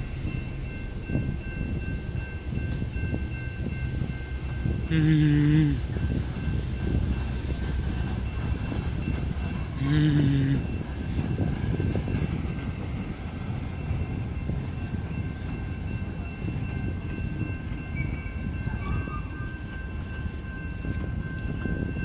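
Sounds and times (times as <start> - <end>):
train coaches rumbling: 0.0 - 22.0.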